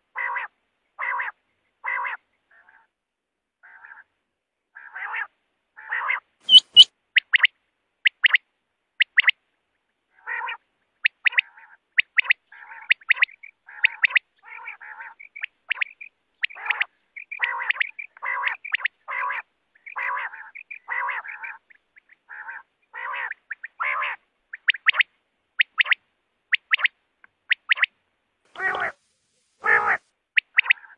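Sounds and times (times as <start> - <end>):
quail calling: 0.2 - 2.9, 3.6 - 4.1, 4.8 - 7.5, 10.2 - 27.9, 28.5 - 29.0, 29.6 - 30.9.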